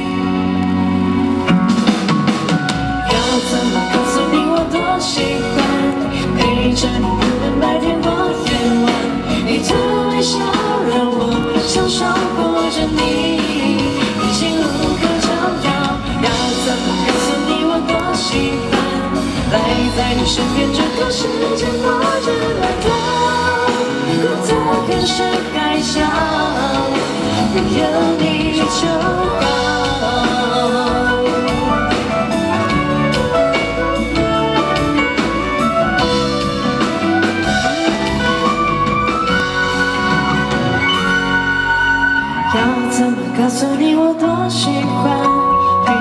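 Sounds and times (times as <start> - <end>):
live pop band playing: 0.0 - 46.0
woman singing: 3.0 - 46.0.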